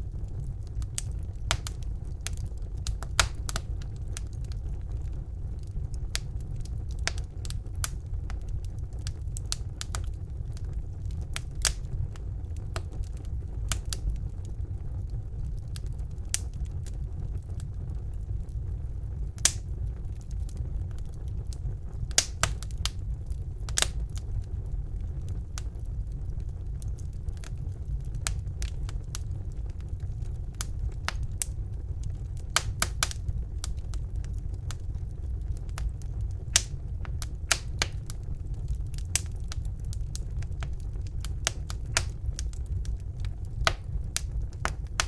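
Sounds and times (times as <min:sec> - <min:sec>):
fire rumbling: 0:00.0 - 0:45.0
logs crackling and popping: 0:00.0 - 0:45.0.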